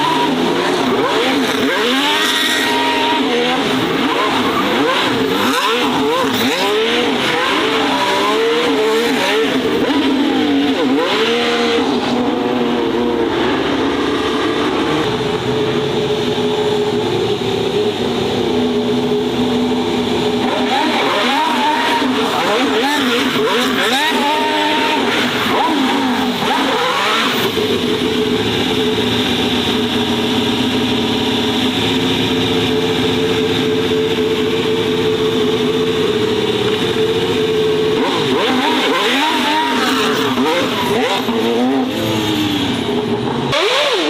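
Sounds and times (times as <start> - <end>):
racing car engines revving: 0.0 - 44.0.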